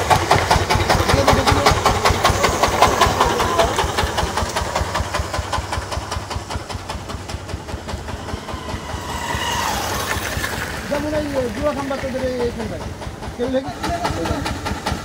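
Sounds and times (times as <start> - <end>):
engine running with low thuds: 0.0 - 15.0.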